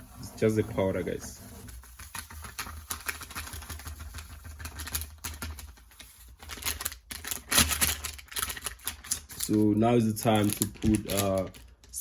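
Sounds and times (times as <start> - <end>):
plastic sachet crinkling: 1.9 - 12.0.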